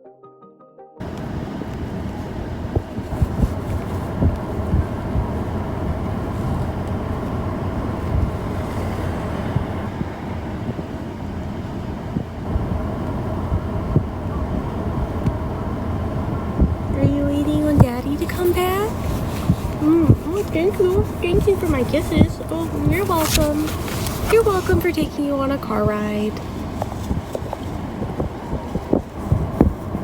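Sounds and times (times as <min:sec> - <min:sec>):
road and engine rumble in car: 0:01.0 - 0:30.0.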